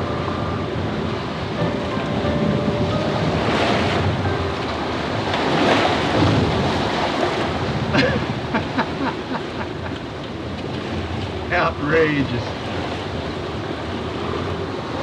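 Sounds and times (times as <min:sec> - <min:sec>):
water surging past hull: 0:00.0 - 0:15.0
wind gusts buffeting microphone: 0:00.0 - 0:15.0.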